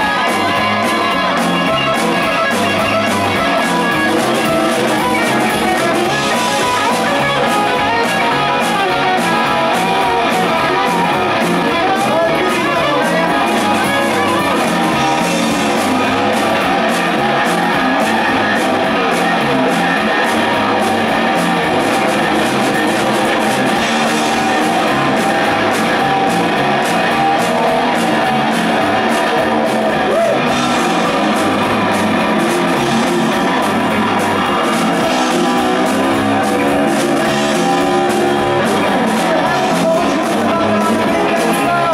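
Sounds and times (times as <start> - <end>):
bass guitar: 0.0 - 41.9
drum kit with cymbal beats: 0.0 - 41.9
electric guitars: 0.0 - 41.9.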